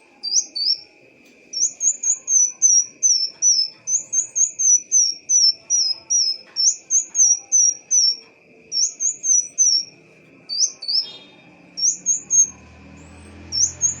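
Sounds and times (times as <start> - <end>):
bird chirping: 0.0 - 14.0
faint high whine: 0.0 - 14.0.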